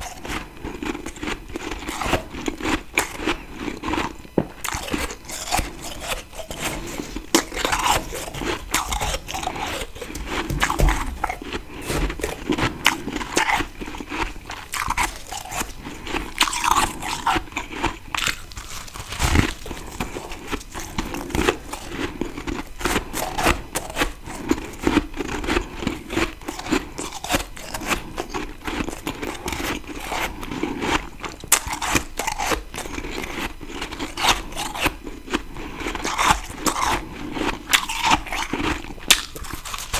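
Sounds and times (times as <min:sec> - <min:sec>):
crunching frost being chewed: 0:00.0 - 0:39.9.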